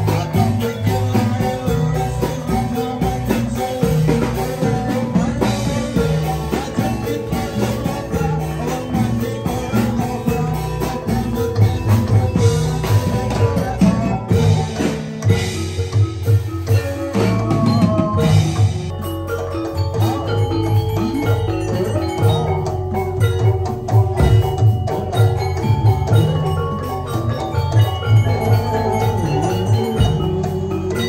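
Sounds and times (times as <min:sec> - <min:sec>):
drum kit beat: 0:00.0 - 0:31.0
live band music: 0:00.0 - 0:31.0.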